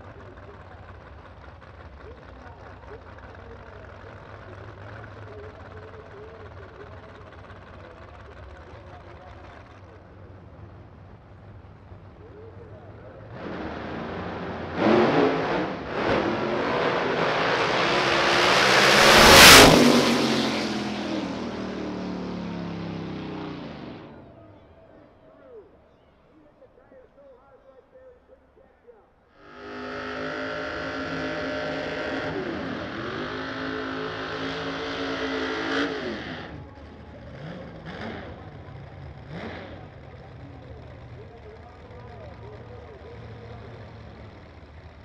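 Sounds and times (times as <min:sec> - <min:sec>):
drag race cars at full throttle: 0:00.0 - 0:27.6, 0:28.2 - 0:45.0.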